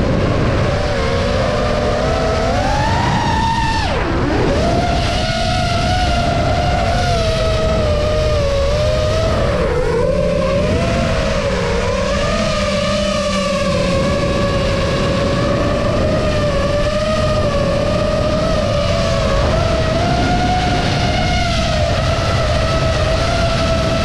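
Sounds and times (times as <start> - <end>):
quadcopter propellers whining: 0.0 - 24.0
wind rumble: 0.0 - 24.0.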